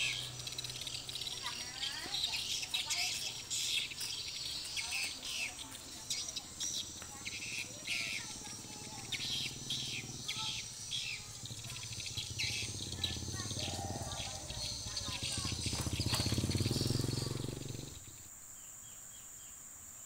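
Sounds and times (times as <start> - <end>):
motorcycle engine humming: 0.0 - 18.3
small birds chirping: 0.0 - 19.6.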